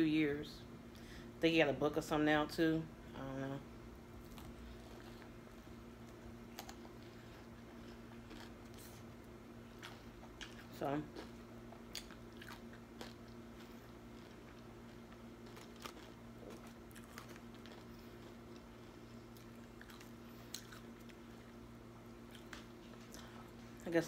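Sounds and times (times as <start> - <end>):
steady low hum: 0.0 - 24.0
chewing crispy fried wings: 4.1 - 24.0.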